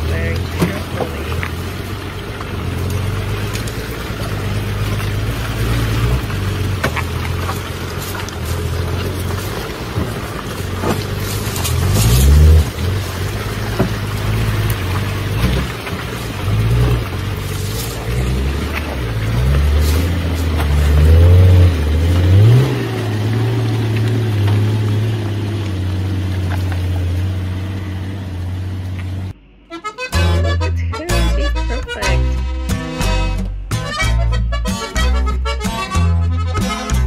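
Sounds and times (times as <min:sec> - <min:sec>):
truck engine revving under load: 0:00.0 - 0:37.0.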